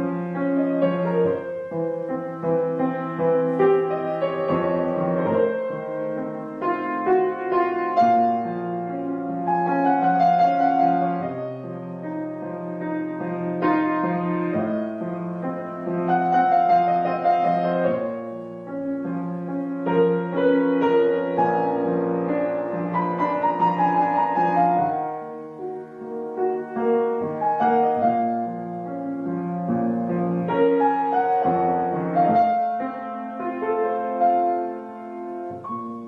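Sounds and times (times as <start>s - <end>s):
piano playing held chords: 0.0s - 36.0s.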